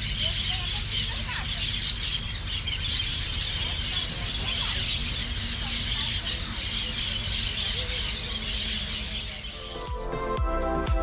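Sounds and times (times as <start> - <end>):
flock of birds chirping: 0.0 - 10.8.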